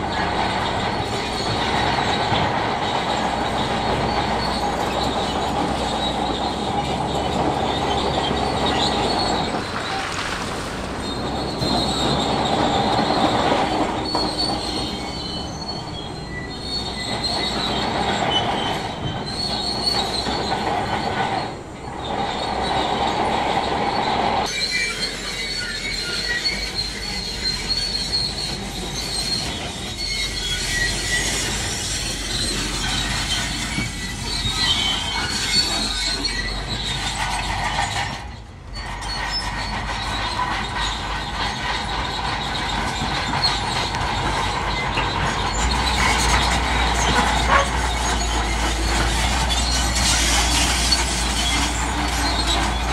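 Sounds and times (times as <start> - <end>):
bulldozer diesel engine: 0.0 - 52.9
steel tracks squealing: 0.0 - 52.9.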